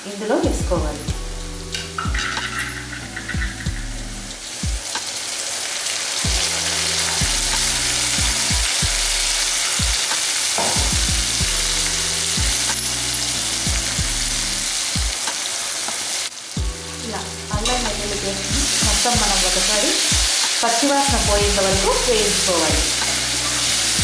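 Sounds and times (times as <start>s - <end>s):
paste sizzling in hot oil: 1.2s - 24.0s.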